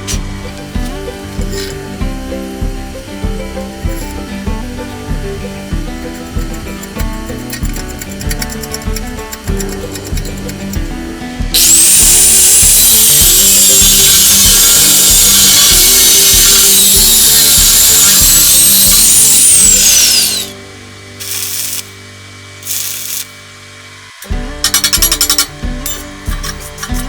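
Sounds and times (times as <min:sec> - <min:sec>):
power tool motor whine: 0:00.0 - 0:24.7.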